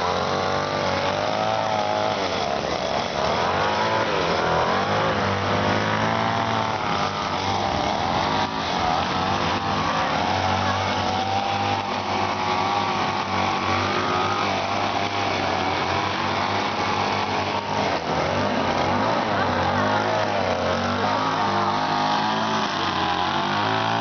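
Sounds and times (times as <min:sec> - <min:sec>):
grass cutter petrol engine running: 0:00.0 - 0:24.0.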